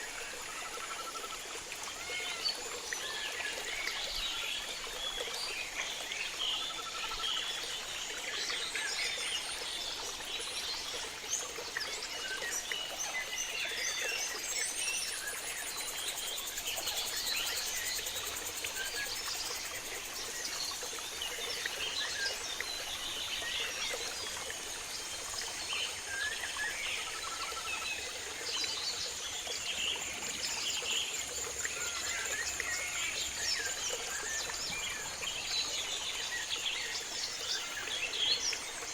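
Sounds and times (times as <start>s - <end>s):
flowing river water: 0.0s - 38.9s.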